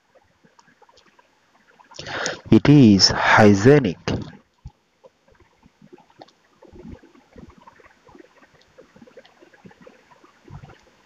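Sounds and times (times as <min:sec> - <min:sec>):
small irregular clicks: 0:00.0 - 0:02.4, 0:04.2 - 0:11.0.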